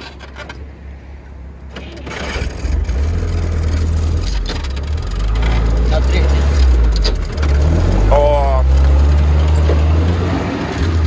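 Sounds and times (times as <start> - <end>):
jeep engine revving: 2.0 - 11.0.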